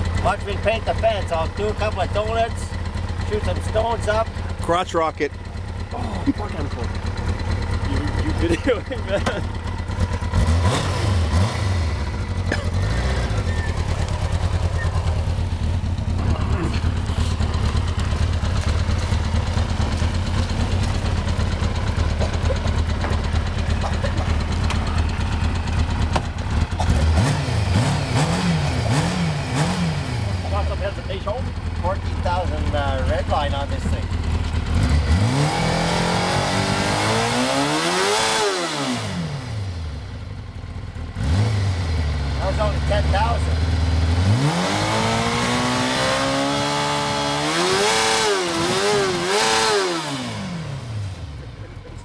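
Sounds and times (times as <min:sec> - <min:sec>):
motorcycle engine idling and revving: 0:00.0 - 0:52.0.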